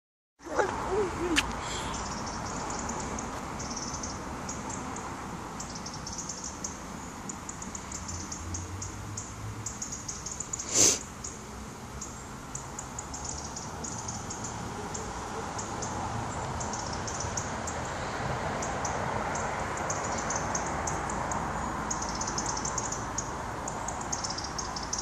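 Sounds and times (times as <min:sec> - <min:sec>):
faint outdoor background noise: 0:00.4 - 0:25.0
small birds chirping: 0:00.4 - 0:25.0.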